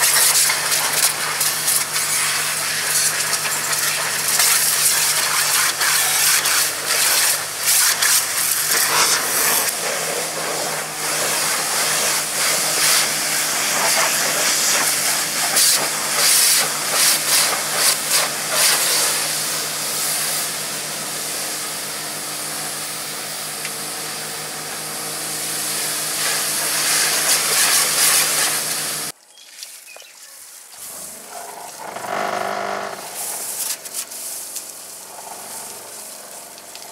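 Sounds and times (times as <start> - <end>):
pressure washer jet hissing: 0.0 - 29.2, 32.6 - 36.9
pressure washer motor hum: 0.0 - 29.2, 30.8 - 36.9.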